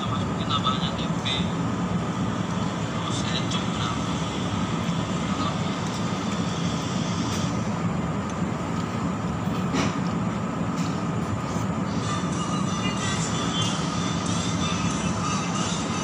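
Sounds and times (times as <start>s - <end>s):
low machine drone: 0.0s - 16.0s.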